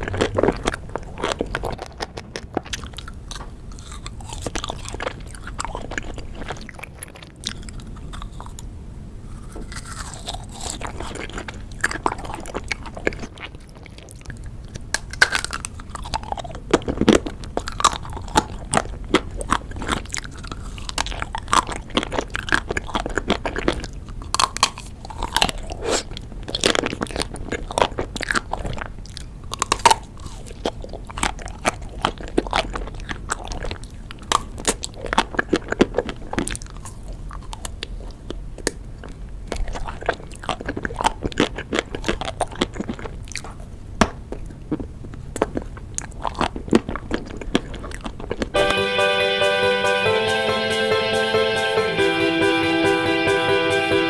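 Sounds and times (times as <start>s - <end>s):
chewing: 0.0s - 48.6s.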